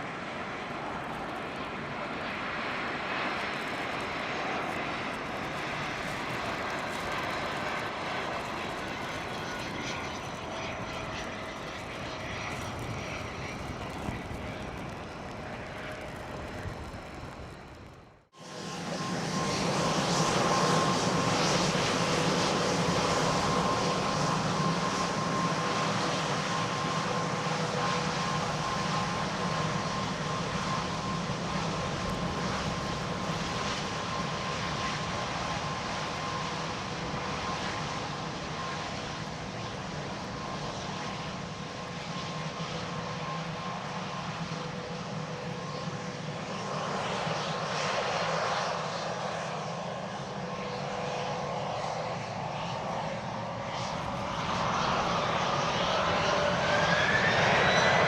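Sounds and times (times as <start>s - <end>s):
jet engine high whine: 0.0s - 58.0s
jet engines rushing: 0.0s - 58.0s.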